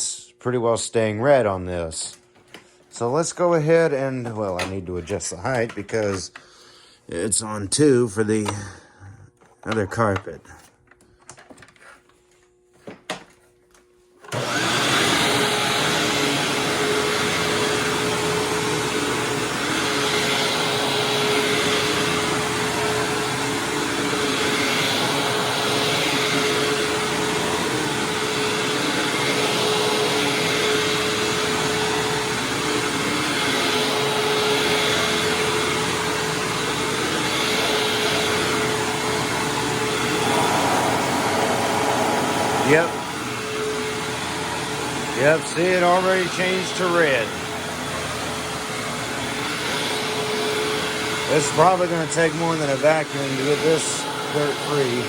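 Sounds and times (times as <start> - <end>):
upright vacuum cleaner on carpet: 1.3 - 6.4, 7.1 - 10.6, 14.2 - 55.0.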